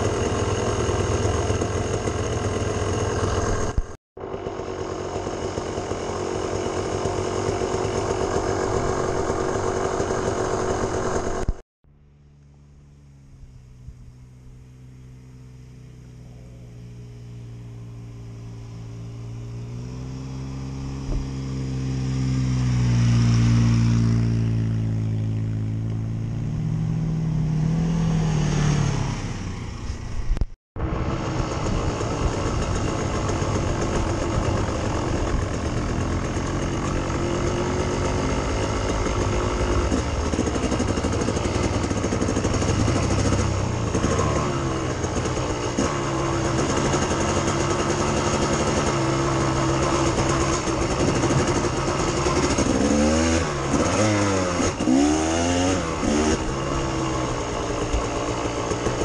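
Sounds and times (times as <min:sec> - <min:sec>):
off-road vehicle engines: 0:00.0 - 0:59.0
wind: 0:00.0 - 0:59.0.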